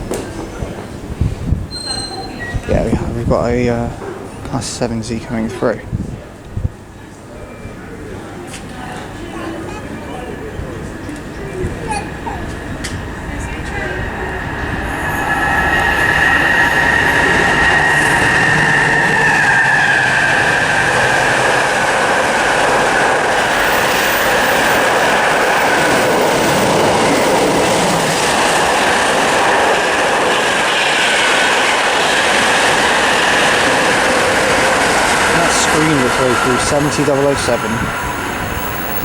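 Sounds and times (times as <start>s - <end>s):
wheel-on-rail rush with whine: 0.0s - 39.0s
electric train passing: 2.3s - 39.0s.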